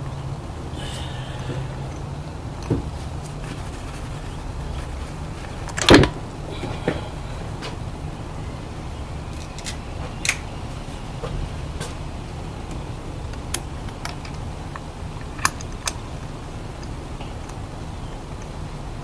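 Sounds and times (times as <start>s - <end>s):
car engine idling: 0.0s - 15.4s.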